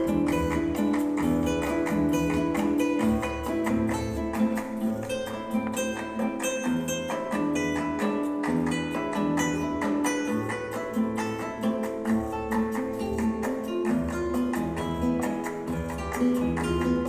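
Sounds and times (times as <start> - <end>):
plucked guitar: 0.0 - 17.0
tango music: 0.0 - 17.0.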